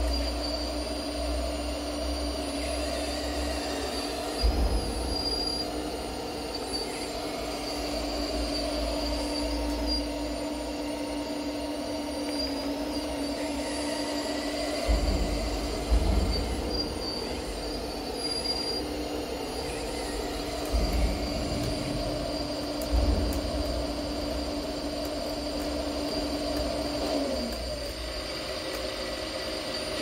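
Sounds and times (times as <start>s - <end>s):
hydraulic pump whining: 0.0s - 30.0s.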